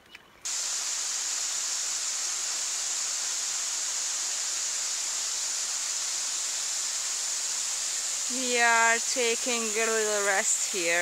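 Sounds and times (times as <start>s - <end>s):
waterfall pouring: 0.5s - 11.0s.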